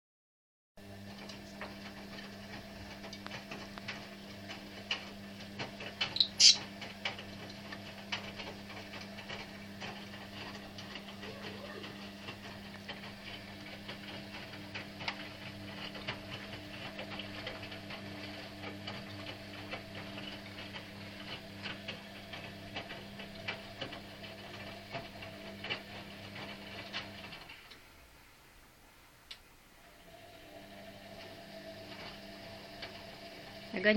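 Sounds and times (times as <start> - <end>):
washing machine motor hum: 0.8 - 33.9.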